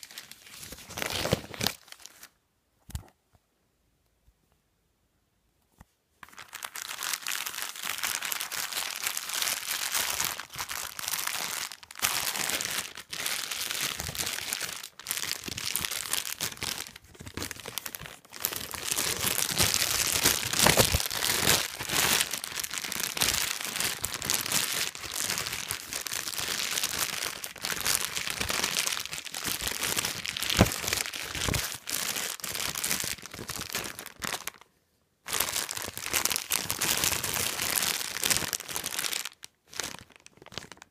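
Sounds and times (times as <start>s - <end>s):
plastic crinkling: 0.0s - 2.3s, 6.2s - 34.7s, 35.3s - 40.9s.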